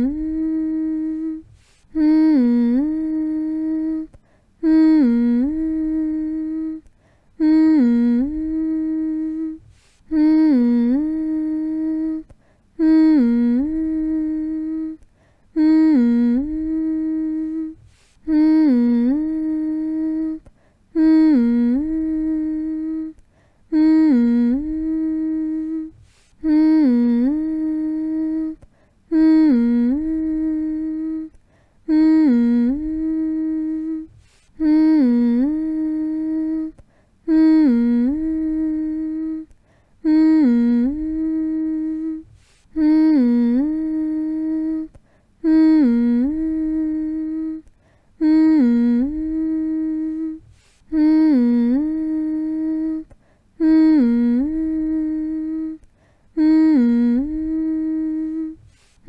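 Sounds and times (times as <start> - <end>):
person humming: 0.0 - 59.0.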